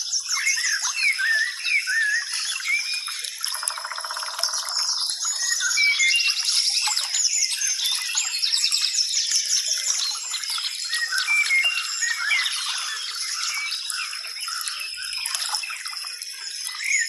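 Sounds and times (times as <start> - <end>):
birds singing: 0.0 - 17.0.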